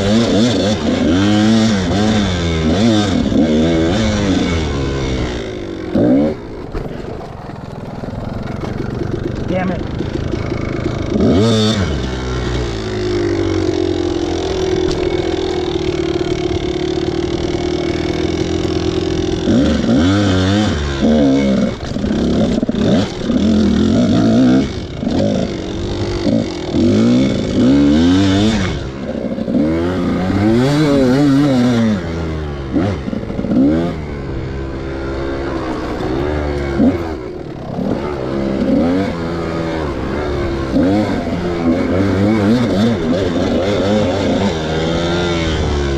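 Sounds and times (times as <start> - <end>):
dirt bike engine idling and revving: 0.0 - 45.9.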